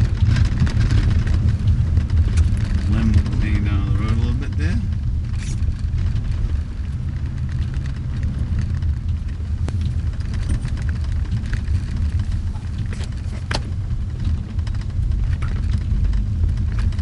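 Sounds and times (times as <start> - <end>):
car driving rumble from inside: 0.0 - 17.0.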